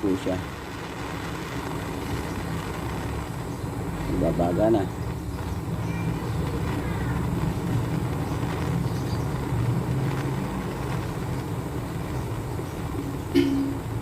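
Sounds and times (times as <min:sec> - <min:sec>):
torch flame rushing: 0:00.0 - 0:14.0.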